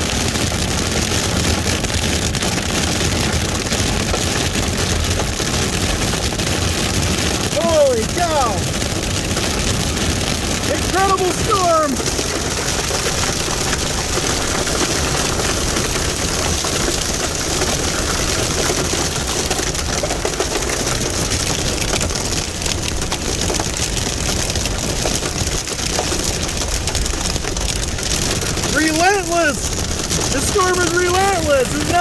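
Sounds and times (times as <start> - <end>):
hail beating on vehicle: 0.0 - 32.0.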